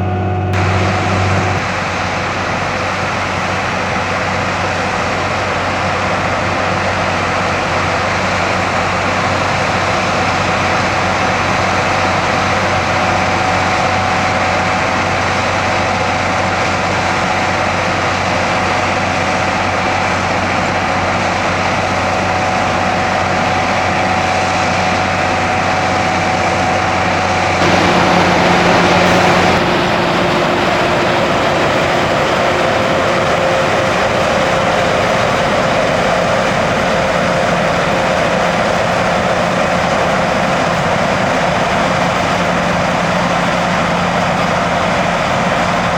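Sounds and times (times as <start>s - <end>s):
harvesting machinery din: 0.0s - 15.3s, 23.3s - 45.9s.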